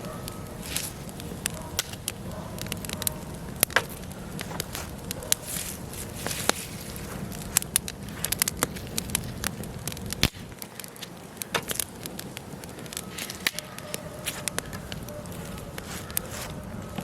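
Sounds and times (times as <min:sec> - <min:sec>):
burning logs crackling: 0:00.0 - 0:17.0
fire popping: 0:00.0 - 0:17.0
low rumble of flames: 0:00.0 - 0:17.0.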